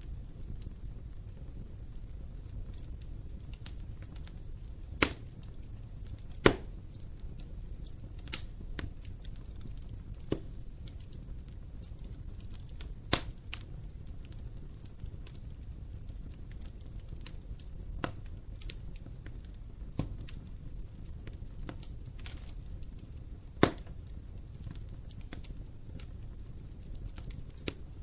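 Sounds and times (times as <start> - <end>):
low rumble of flames: 0.0 - 28.0
sharp fire pops: 0.0 - 28.0
wood fire crackling: 0.0 - 28.0.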